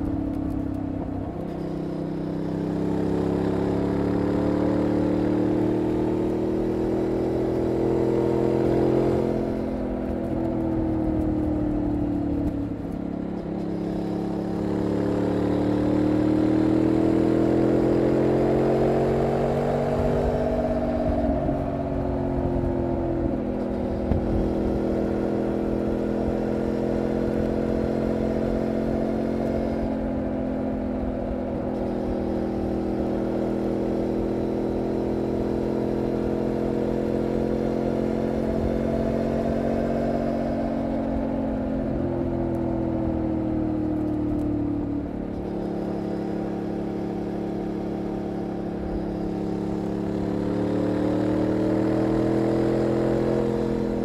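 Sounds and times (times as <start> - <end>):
motorcycle engine under way: 0.0 - 54.0.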